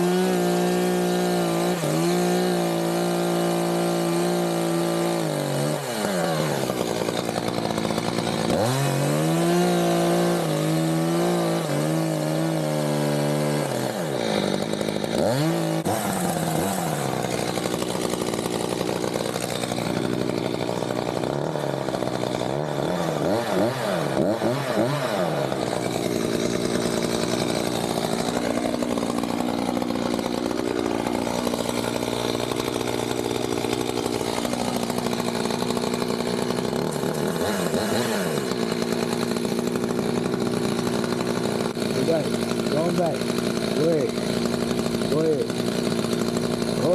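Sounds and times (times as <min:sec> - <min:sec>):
chainsaw engine revving: 0:00.0 - 0:46.9.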